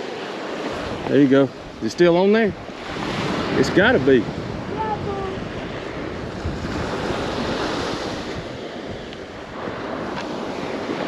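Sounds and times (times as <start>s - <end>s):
surf washing onto beach: 0.0s - 11.0s
wind on microphone: 0.0s - 11.0s.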